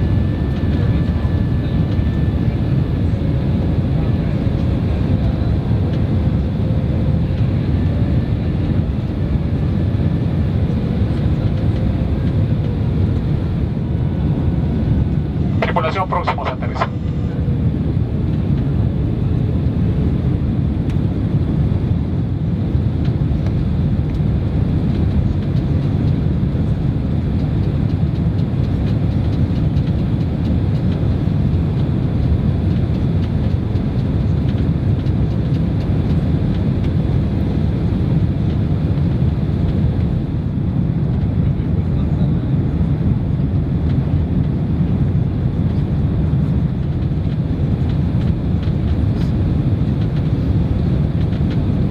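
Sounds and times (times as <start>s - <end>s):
airplane cabin engine roar: 0.0s - 51.9s.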